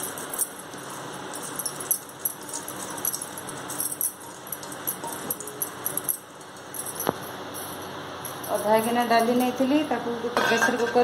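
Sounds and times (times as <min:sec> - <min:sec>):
metal clinking on metal: 0:00.0 - 0:09.4
bangles jingling: 0:00.0 - 0:09.6.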